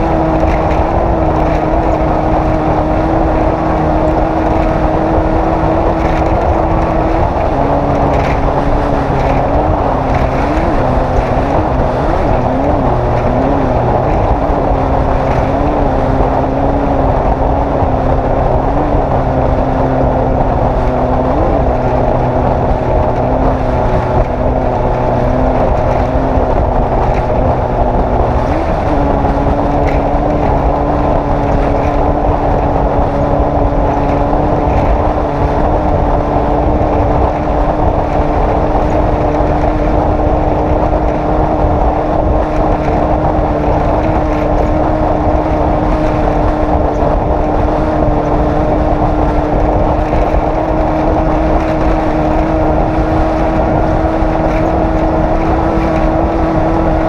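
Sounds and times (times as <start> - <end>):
road noise: 0.0 - 57.0
vehicle engine running: 0.0 - 57.0
wind noise: 0.0 - 57.0.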